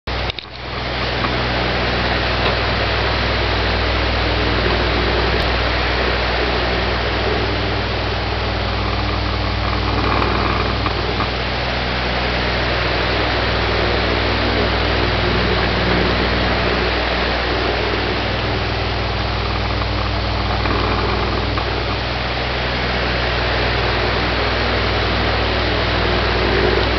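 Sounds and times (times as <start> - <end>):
fan motor hum: 0.1 - 26.9
fan whoosh of moving air: 0.1 - 26.9.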